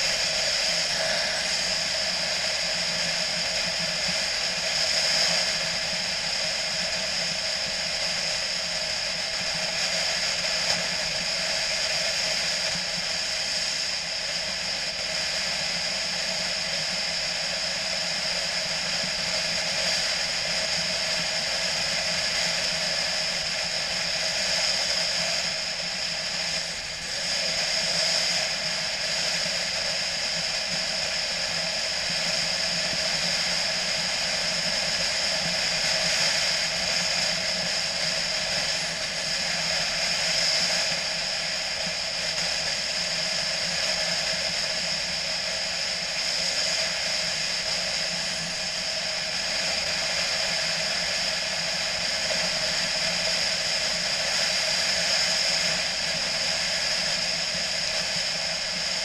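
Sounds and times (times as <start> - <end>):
motorcycle engine riding: 0.0 - 59.0
wind and road noise: 0.0 - 59.0.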